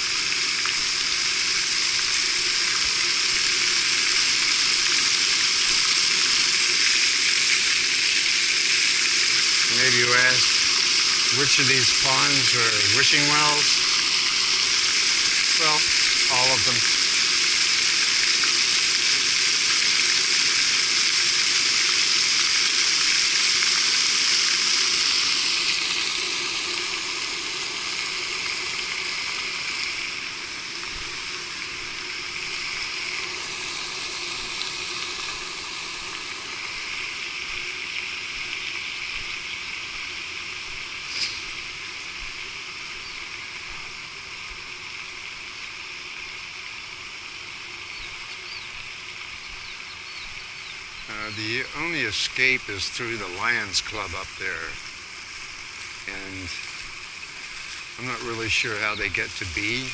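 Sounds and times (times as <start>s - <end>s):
fountain spray splashing on water: 0.0s - 59.9s.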